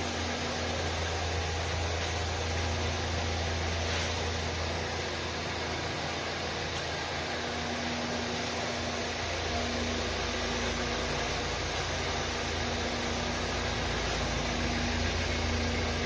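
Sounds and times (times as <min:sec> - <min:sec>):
low machine hum: 0:00.0 - 0:16.0
steady hiss: 0:00.0 - 0:16.0.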